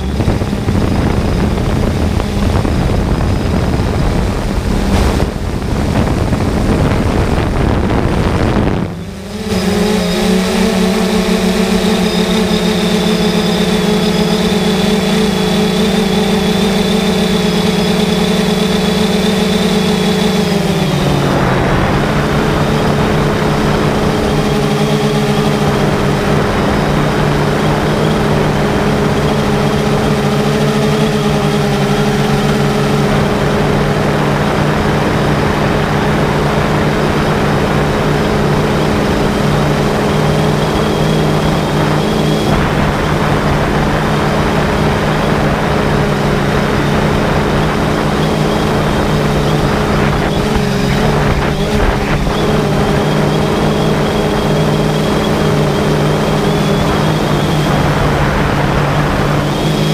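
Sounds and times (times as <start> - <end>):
drone propellers humming: 0.0 - 59.9.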